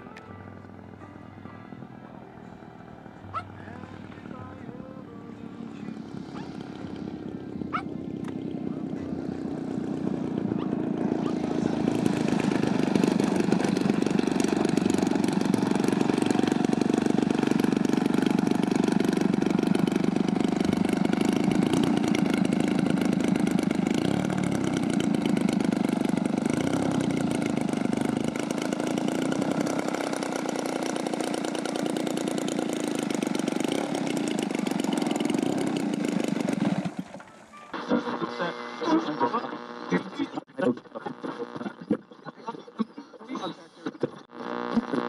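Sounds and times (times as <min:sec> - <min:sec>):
model plane engine idling: 0:01.8 - 0:40.5, 0:44.3 - 0:45.0.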